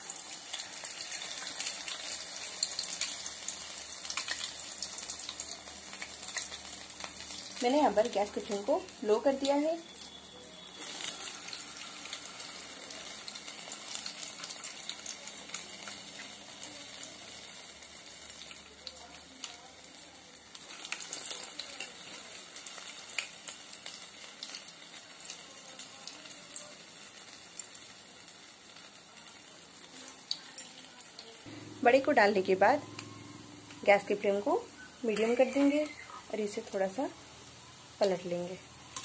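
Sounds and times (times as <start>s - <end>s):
food deep-frying in oil: 0.0s - 39.0s.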